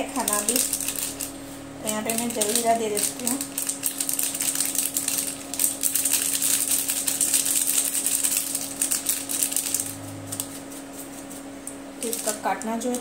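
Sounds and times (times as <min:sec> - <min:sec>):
plastic sachet crinkling: 0:00.0 - 0:13.0.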